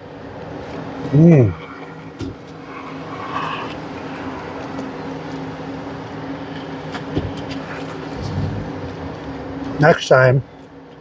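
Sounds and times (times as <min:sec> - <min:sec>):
engine hum: 0:00.0 - 0:11.0
traffic noise: 0:00.0 - 0:11.0.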